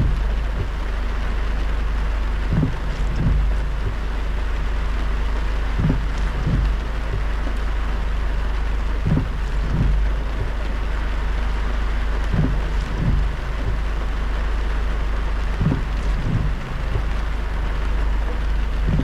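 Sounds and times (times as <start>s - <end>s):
dull low thumps: 0.0s - 19.0s
low road rumble: 0.0s - 19.0s
rain and tyre spray hiss: 0.0s - 19.0s.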